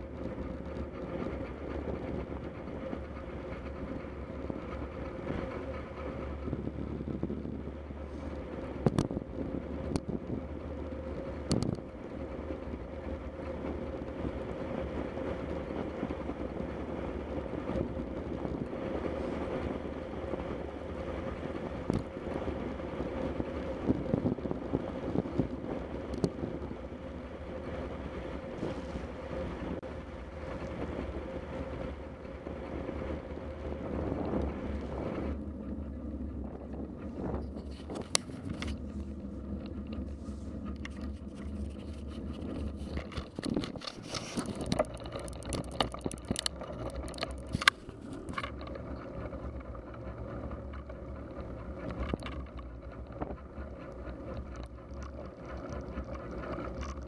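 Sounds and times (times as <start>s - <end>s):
bicycle tyres on wet road: 0.0s - 57.0s
wind on microphone: 0.0s - 57.0s.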